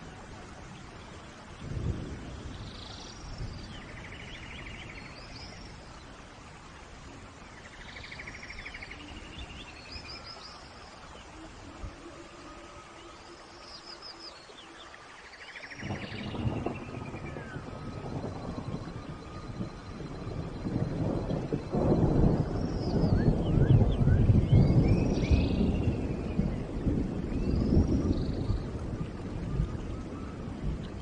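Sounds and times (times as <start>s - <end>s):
rain hissing in forest: 0.0s - 31.0s.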